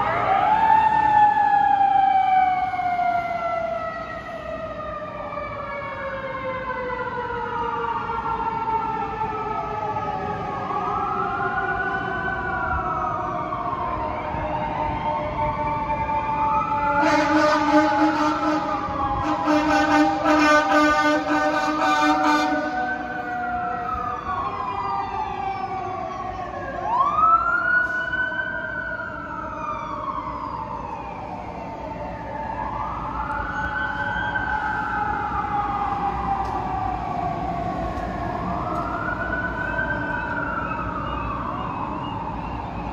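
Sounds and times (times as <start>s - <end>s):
fire truck siren wailing: 0.0s - 42.9s.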